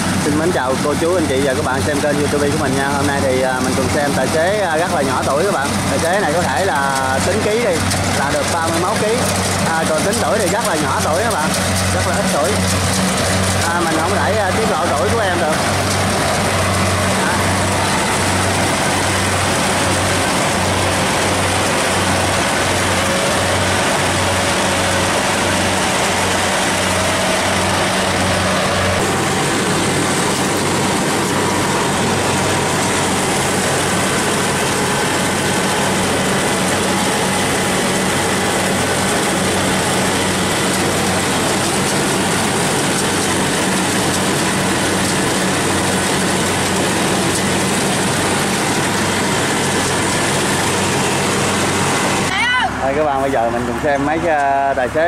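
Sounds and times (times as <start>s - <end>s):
combine harvester engine running: 0.0s - 55.0s.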